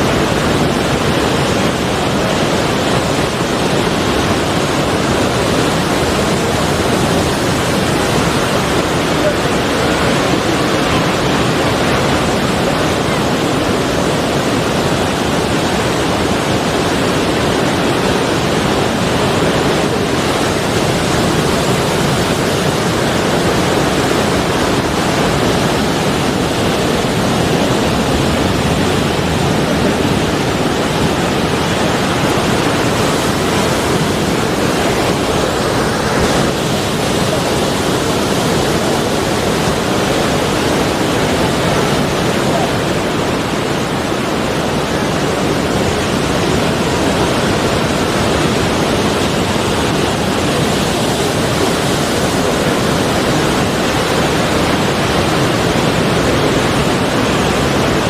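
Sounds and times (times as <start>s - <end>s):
sea surf washing on shore: 0.0s - 58.0s.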